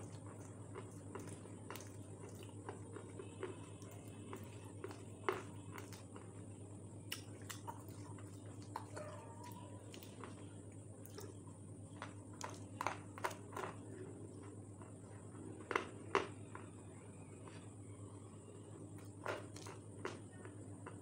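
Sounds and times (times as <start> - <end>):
crunchy chewing: 0.0 - 21.0
faint high whine: 0.0 - 21.0.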